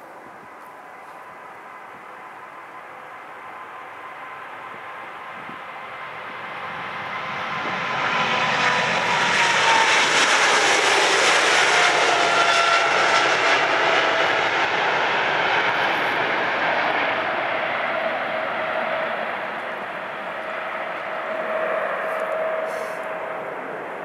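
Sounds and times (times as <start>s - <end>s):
jet engine whine: 0.0s - 24.0s
jet engines roaring at takeoff: 0.9s - 24.0s.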